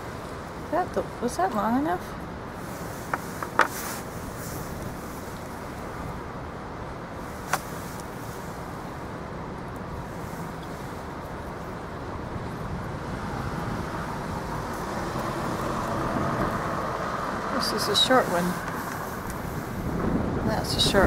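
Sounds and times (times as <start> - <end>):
wind on microphone: 2.2 - 21.0.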